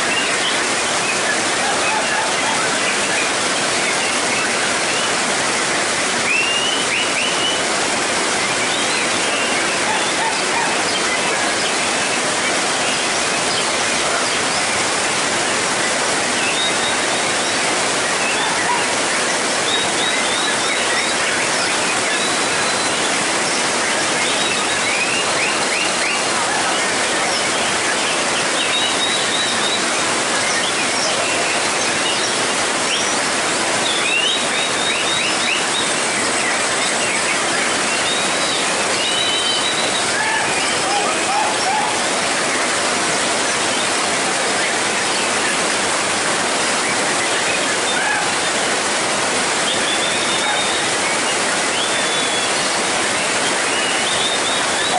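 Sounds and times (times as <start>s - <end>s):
heavy rain on a roof: 0.0s - 54.9s.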